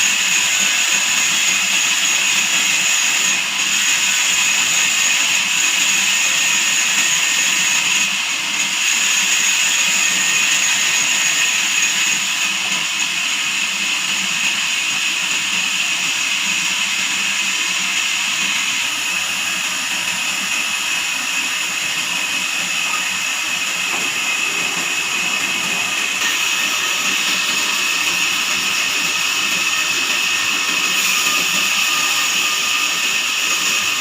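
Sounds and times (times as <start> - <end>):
band saw whine and hiss: 0.0 - 34.0.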